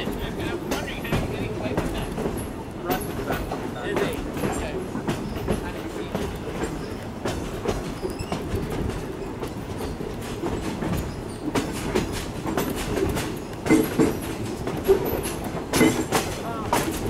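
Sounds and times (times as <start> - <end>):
steel wheels clacking over rails: 0.0 - 17.0
train car rumbling: 0.0 - 17.0.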